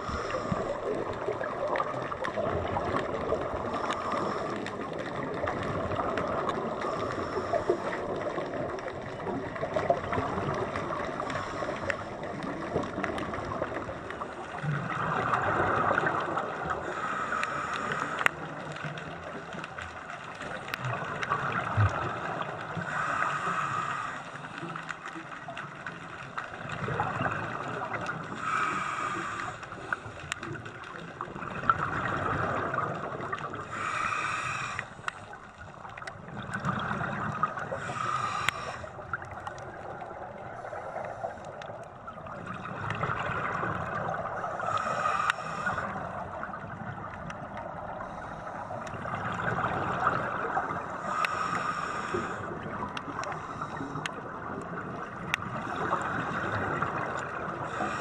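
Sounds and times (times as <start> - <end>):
exhaled air bubbling underwater: 0.0 - 58.0.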